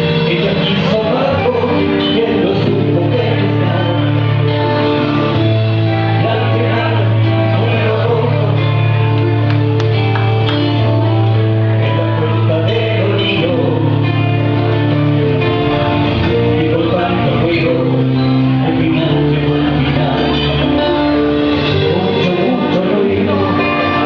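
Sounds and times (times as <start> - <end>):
guitar-led band song: 0.0 - 24.0
held bass notes: 0.0 - 24.0.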